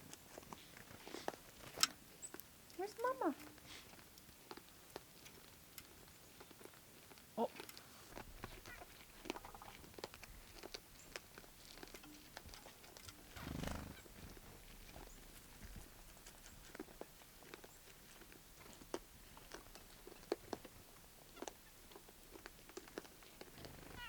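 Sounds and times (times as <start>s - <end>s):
deer feeding clicks and crunches: 0.0s - 13.4s, 14.2s - 23.9s.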